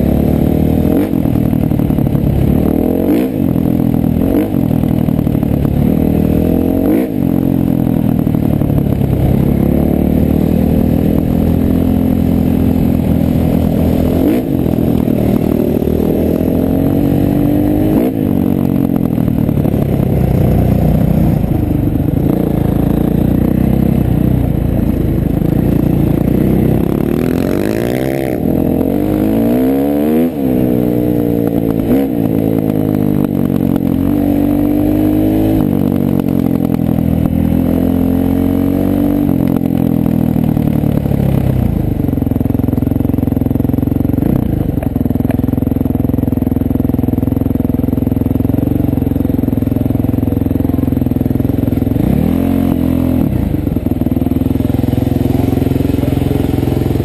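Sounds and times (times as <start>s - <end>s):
dirt bike engine revving: 0.0s - 40.4s, 50.6s - 57.0s.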